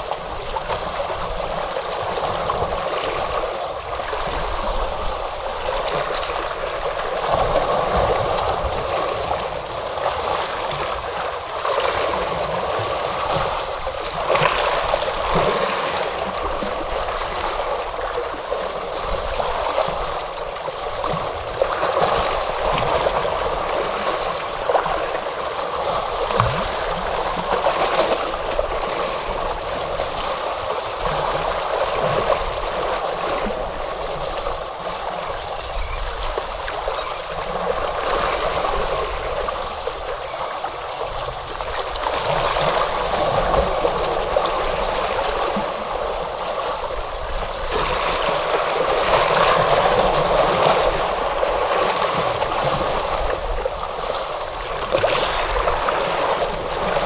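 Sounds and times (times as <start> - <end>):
small water splashes: 0.0 - 57.0
water washing and gurgling: 0.0 - 57.0.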